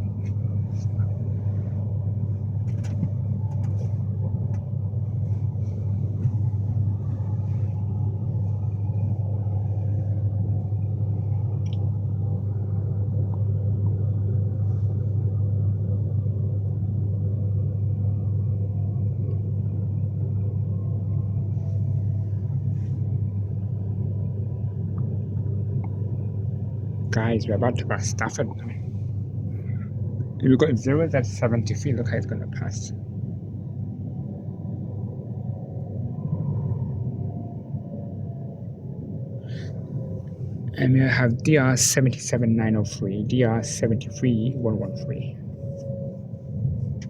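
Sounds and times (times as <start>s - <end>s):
electric train rumbling: 0.0s - 47.0s.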